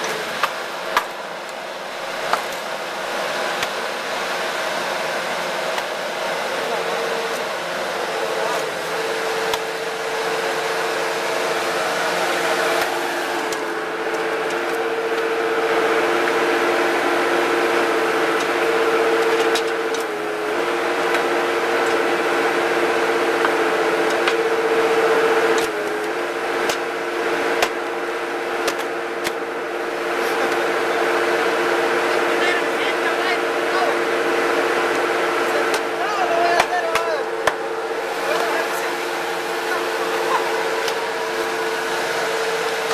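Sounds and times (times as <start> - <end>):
log splitter motor whine: 0.0 - 42.9.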